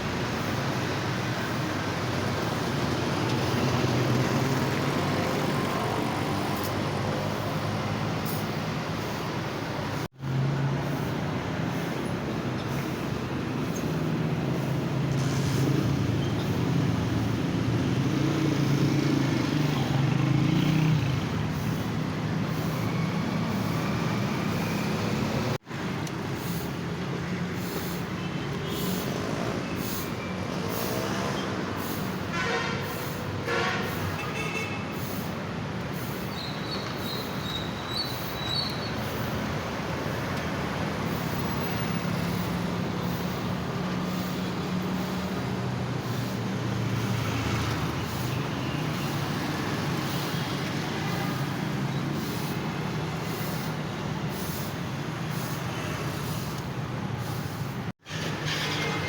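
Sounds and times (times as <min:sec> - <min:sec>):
vehicle engines: 0:00.0 - 0:59.0.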